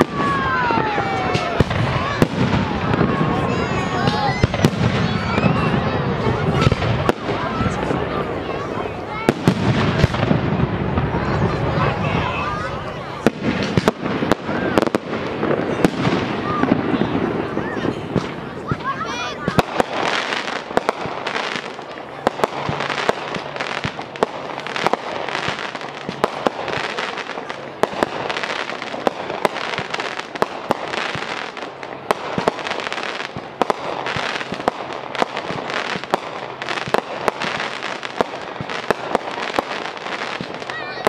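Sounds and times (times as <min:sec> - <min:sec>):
firework bangs: 0:00.0 - 0:41.0
firework crackling: 0:00.0 - 0:41.0.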